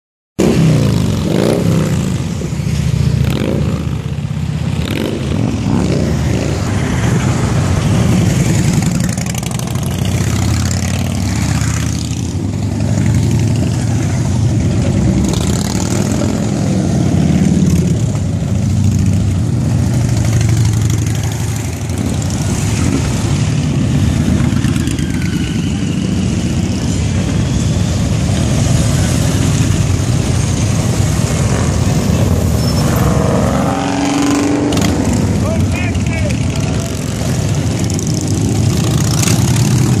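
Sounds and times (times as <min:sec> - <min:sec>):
motorcycles riding past: 0:00.4 - 0:40.0.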